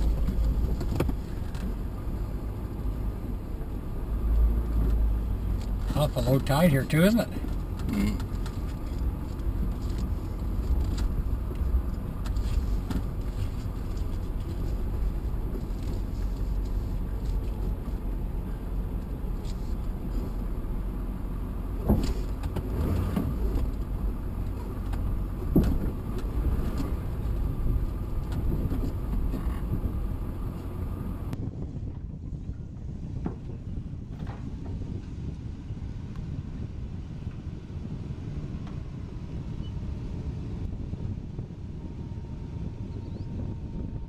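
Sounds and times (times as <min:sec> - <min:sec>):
vehicle rumbling on gravel: 0:00.0 - 0:44.0.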